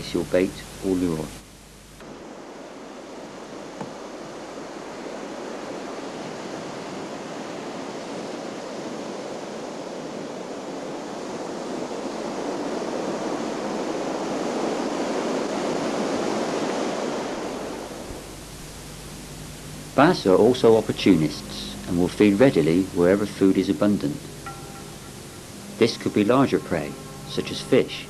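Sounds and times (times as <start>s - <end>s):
sea surf on rocky shore: 2.0s - 28.0s.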